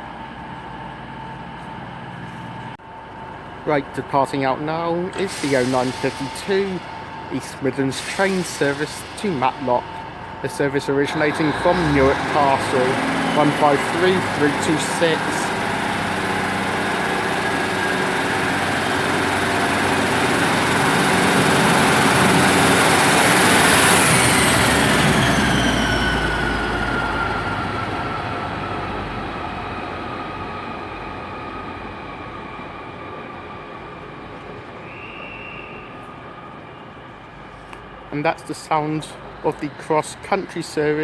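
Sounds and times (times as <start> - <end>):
diesel train passing: 0.0 - 41.0.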